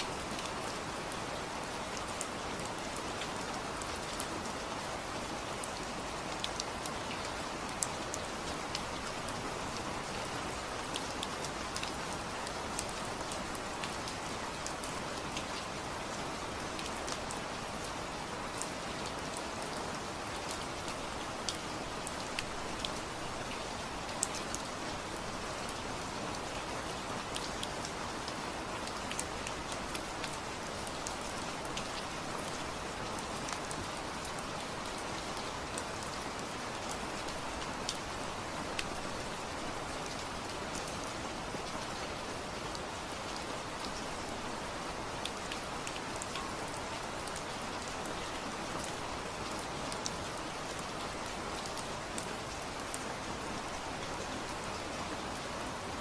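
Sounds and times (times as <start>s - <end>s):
raindrops ticking on a surface: 0.0s - 55.5s
steady rain: 0.0s - 56.0s.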